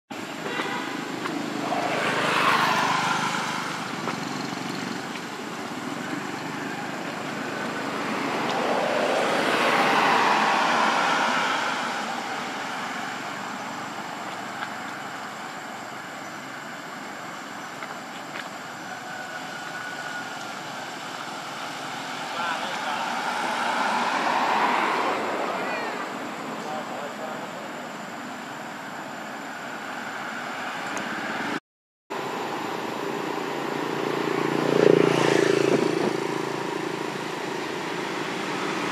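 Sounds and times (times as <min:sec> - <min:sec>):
road traffic noise: 0:00.1 - 0:38.9
vehicles passing: 0:00.1 - 0:38.9.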